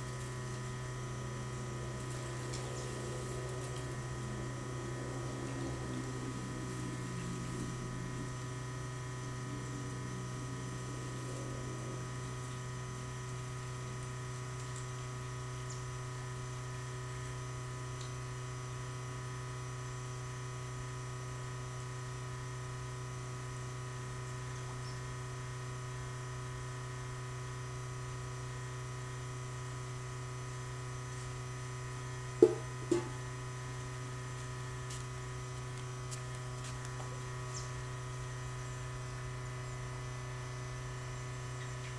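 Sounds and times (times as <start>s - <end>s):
low electrical hum: 0.0s - 41.9s.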